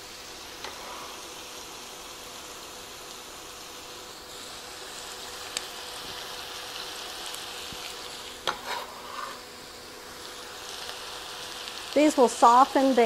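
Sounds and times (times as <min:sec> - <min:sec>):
meat and onion sizzling in skillet: 0:00.0 - 0:13.0.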